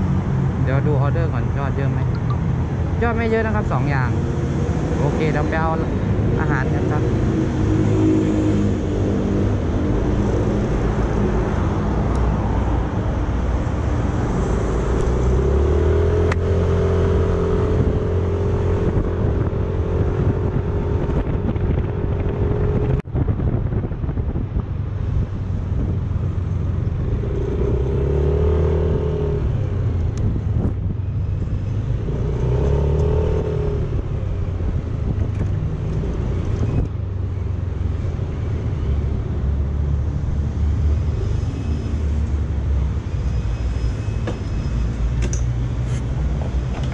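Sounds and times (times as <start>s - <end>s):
road noise: 0.0s - 46.9s.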